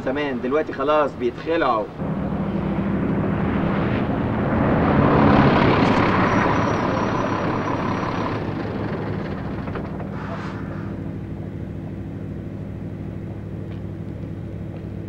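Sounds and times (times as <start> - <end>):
bus driving past: 1.8 - 15.0.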